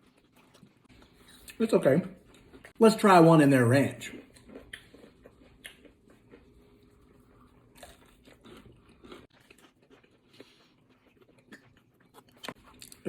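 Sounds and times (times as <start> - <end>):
biting and chewing food: 0.0 - 2.8, 4.0 - 13.0.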